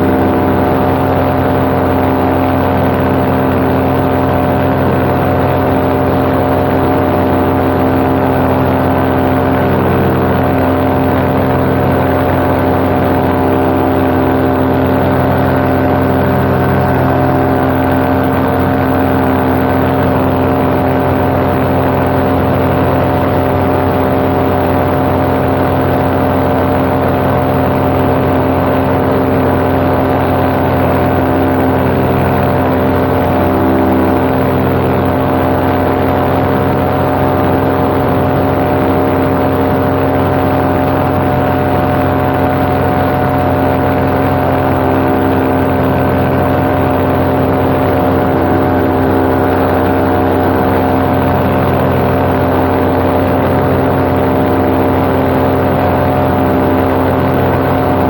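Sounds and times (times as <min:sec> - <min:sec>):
paramotor engine drone: 0:00.0 - 0:58.0.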